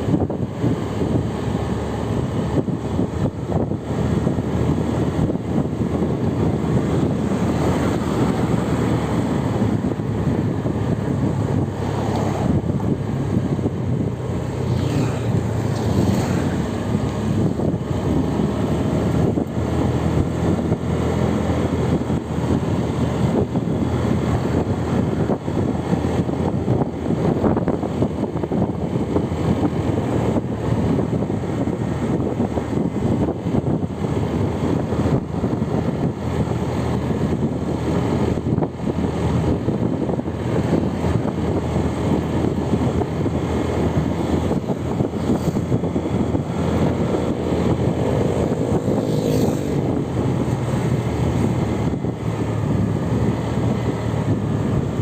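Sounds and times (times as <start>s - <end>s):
vehicle engine and tyre noise: 0.0s - 55.0s.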